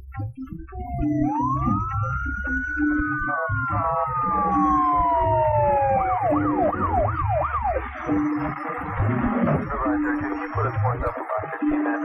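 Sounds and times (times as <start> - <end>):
rhythmic background music: 0.0 - 12.0
emergency vehicle siren: 0.8 - 11.1.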